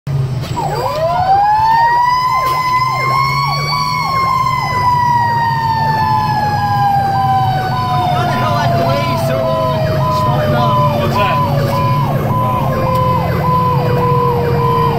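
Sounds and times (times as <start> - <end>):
diesel engine rumbling: 0.1 - 14.9
electronic siren yelping: 0.6 - 14.9.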